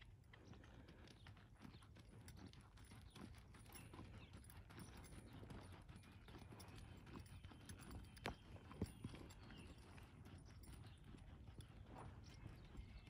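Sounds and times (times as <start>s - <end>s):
hoofbeats on soft dirt: 0.0s - 13.0s.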